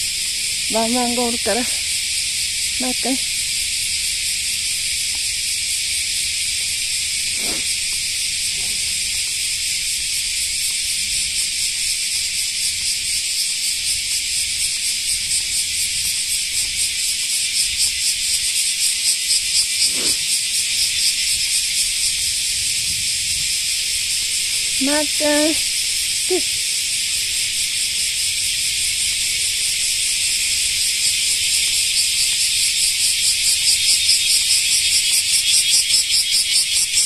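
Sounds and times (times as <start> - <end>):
cicadas buzzing: 0.0 - 37.0.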